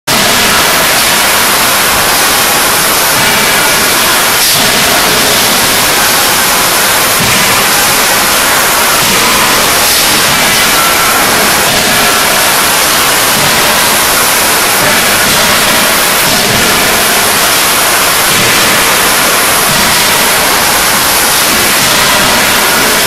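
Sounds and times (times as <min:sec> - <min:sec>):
forging machinery hiss: 0:00.1 - 0:23.0.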